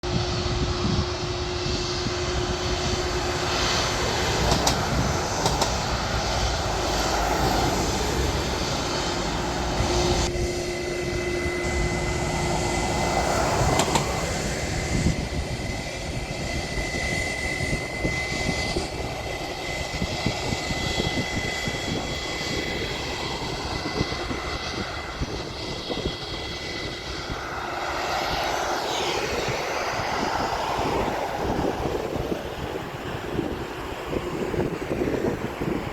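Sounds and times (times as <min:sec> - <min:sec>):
faint high engine whine: 0:00.0 - 0:35.9
jet engines rumbling: 0:00.0 - 0:35.9.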